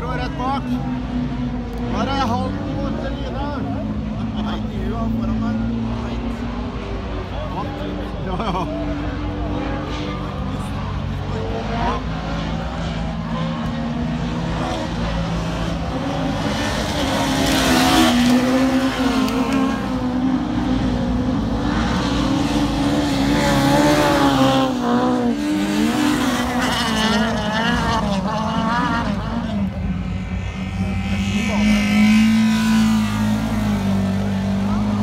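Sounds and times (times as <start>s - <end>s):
racing car engines revving: 0.0s - 35.0s.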